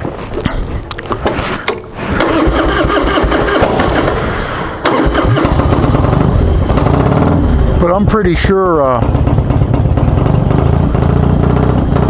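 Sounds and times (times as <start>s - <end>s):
motorcycle engine starting and running: 2.1s - 12.0s.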